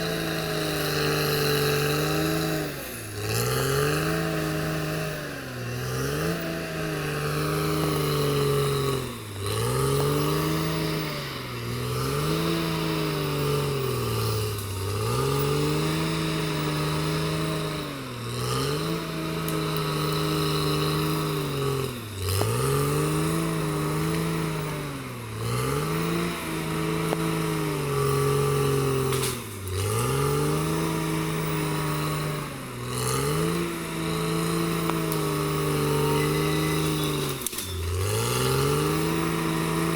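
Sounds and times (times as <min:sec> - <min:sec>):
bulldozer diesel engine running hard: 0:00.0 - 0:39.9.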